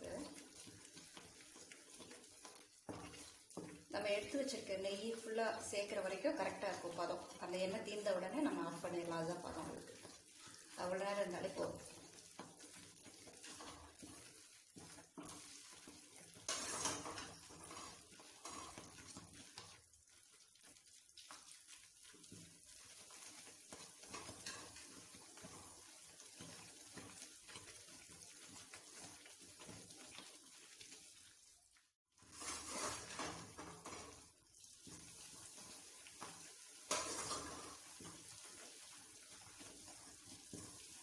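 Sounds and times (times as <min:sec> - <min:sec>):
hot mixture bubbling and sizzling: 0:00.0 - 0:41.0
spatula stirring and scraping pan: 0:00.0 - 0:41.0.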